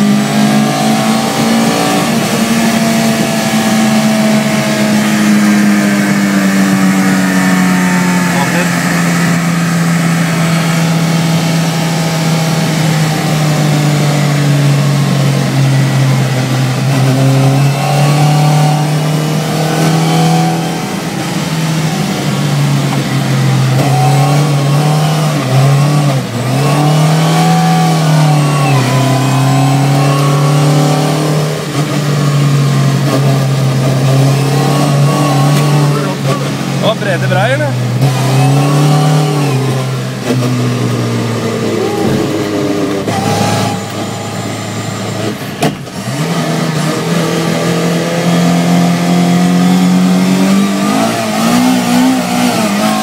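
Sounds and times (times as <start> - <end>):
car engine revving from inside: 0.0 - 53.0.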